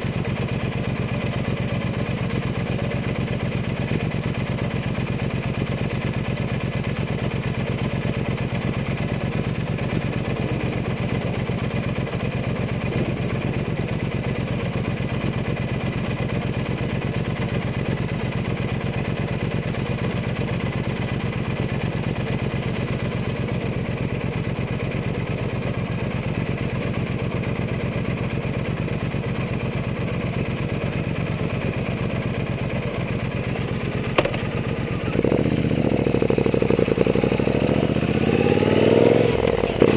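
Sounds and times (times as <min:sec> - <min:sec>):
motorcycle exhaust running steadily: 0:00.0 - 0:39.9.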